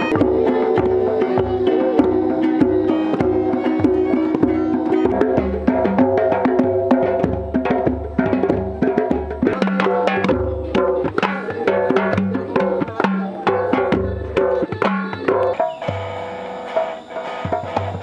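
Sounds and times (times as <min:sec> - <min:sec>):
fast wood-block percussion beat: 0:00.0 - 0:18.0.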